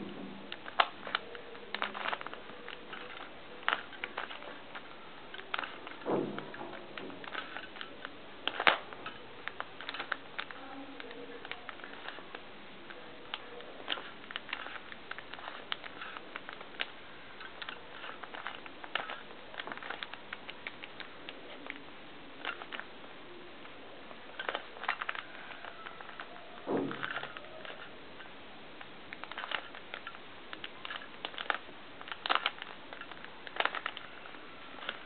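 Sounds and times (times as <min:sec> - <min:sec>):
plastic cube clicking: 0:00.4 - 0:23.0, 0:23.6 - 0:35.0.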